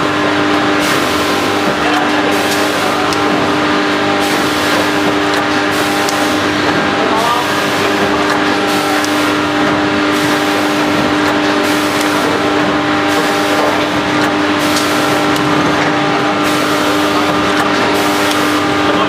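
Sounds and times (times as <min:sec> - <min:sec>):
machine motor hum: 0:00.0 - 0:19.0.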